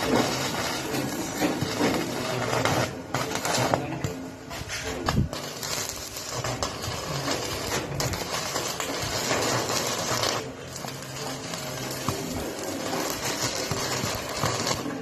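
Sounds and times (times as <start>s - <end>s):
arc welding crackling hiss: 0.0s - 15.0s.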